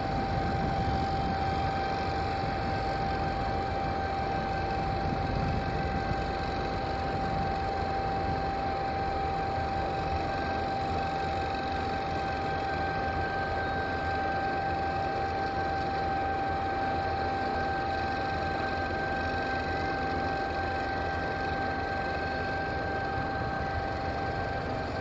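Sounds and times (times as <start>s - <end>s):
high mechanical whine: 0.0s - 25.0s.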